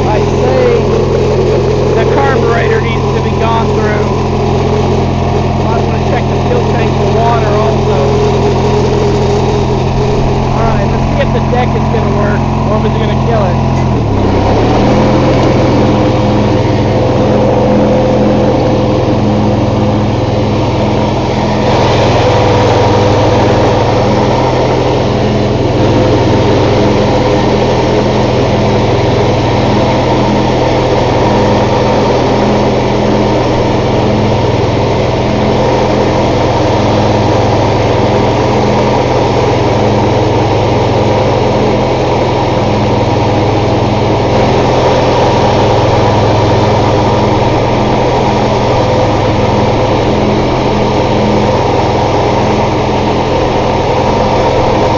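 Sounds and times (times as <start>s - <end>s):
lawn tractor engine running: 0.0s - 54.9s.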